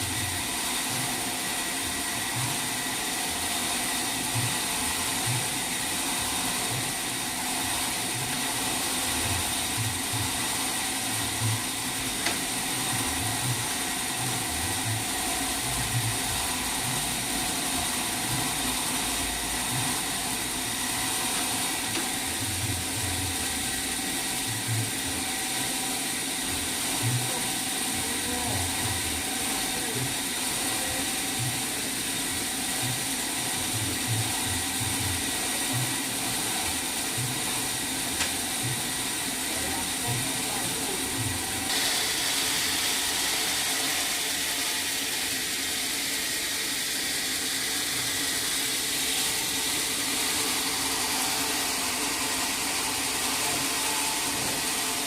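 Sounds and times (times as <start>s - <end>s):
sawmill machinery whine: 0.0s - 55.0s.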